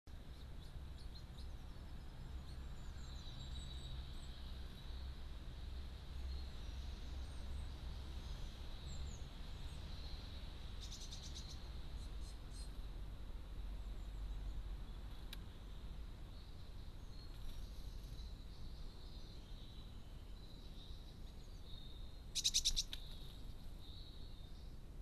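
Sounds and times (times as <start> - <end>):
songbirds chirping: 0.1 - 25.0.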